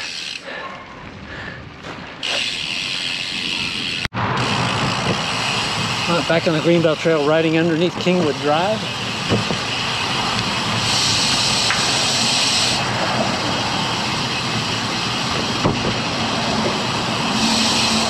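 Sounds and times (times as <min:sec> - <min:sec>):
bicycle tyres on concrete: 0:00.0 - 0:18.0
rushing wind: 0:00.6 - 0:18.0.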